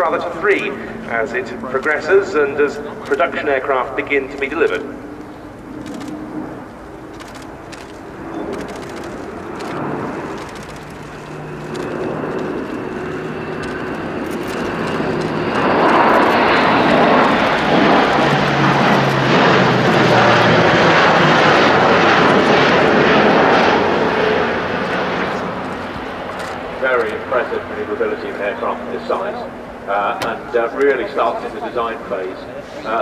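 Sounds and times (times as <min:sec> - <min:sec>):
rushing engine noise: 0:00.0 - 0:31.5
low propeller hum: 0:00.0 - 0:33.0.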